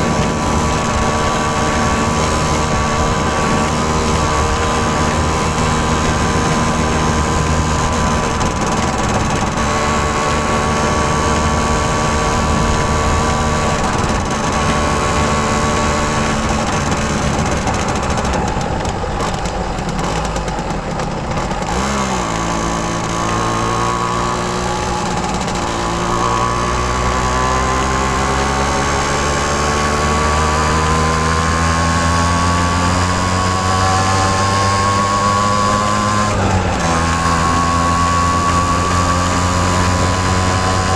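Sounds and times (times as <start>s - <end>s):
two-stroke moped engine running: 0.0s - 40.9s.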